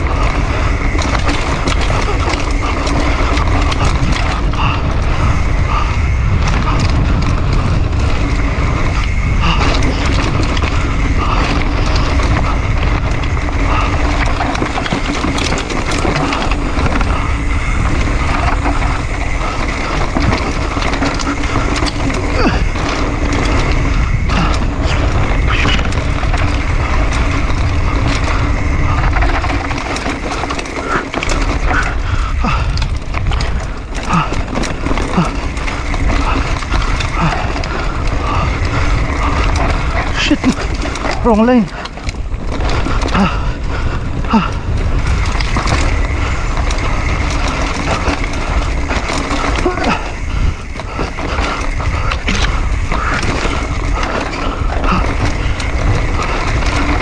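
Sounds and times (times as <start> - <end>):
bike rattling over bumps: 0.0 - 57.0
bike tyres rolling over dirt: 0.0 - 57.0
wind buffeting microphone: 0.0 - 57.0.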